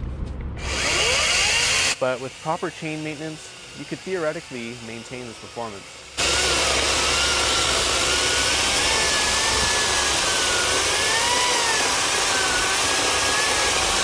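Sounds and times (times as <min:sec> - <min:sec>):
electric chainsaw cutting log: 0:00.6 - 0:14.0.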